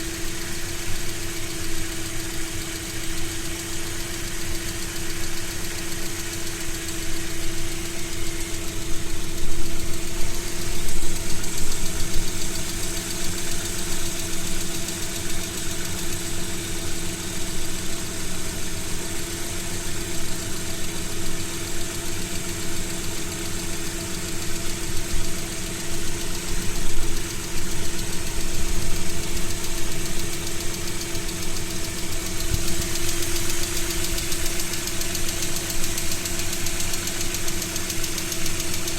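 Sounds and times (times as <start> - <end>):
engine idling with knock: 0.0 - 38.9.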